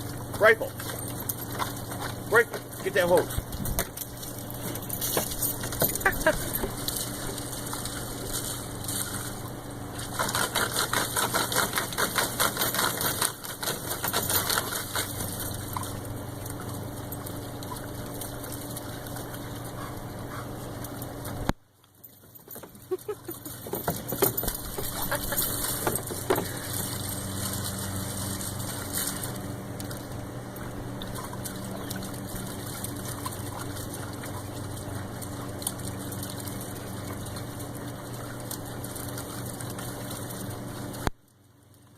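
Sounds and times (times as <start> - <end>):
steady low hum: 0.0 - 41.9
water from hose splashing: 0.0 - 41.9.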